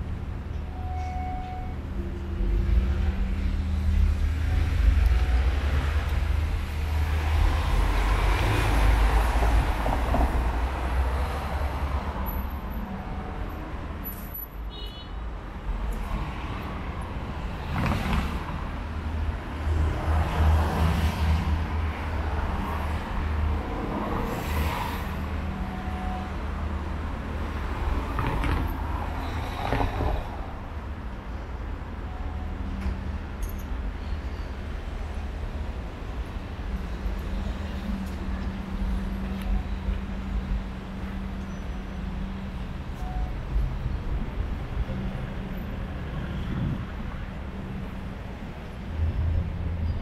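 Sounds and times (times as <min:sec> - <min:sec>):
road traffic passing: 0:00.0 - 0:50.0.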